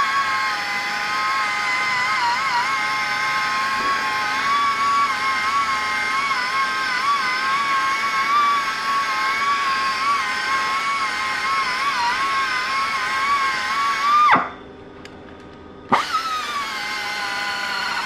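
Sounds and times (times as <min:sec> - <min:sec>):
die grinder whining: 0:00.0 - 0:14.6, 0:15.8 - 0:18.0.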